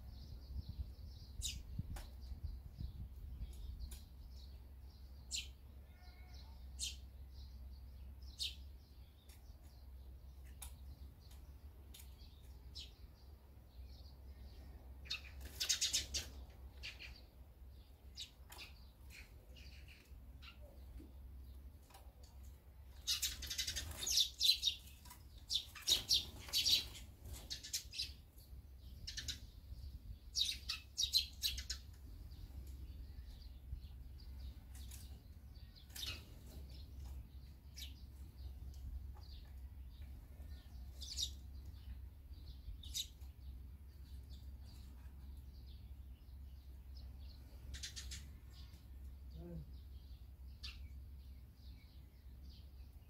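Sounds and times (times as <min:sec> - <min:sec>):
sparrows chirping: 0:00.0 - 0:53.0.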